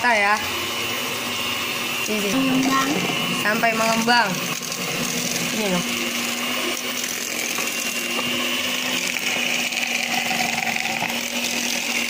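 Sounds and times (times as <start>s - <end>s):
electric hand mixer whipping: 0.0s - 12.0s.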